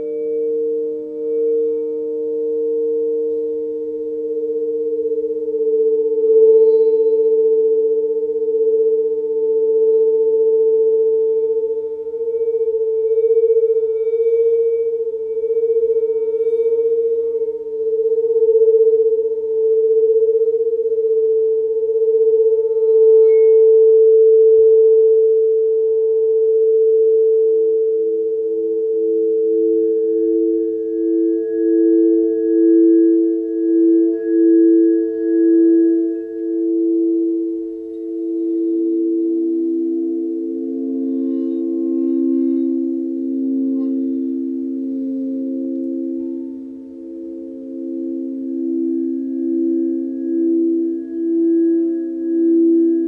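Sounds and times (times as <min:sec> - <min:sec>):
layered steady pure tones: 0:00.0 - 0:53.0.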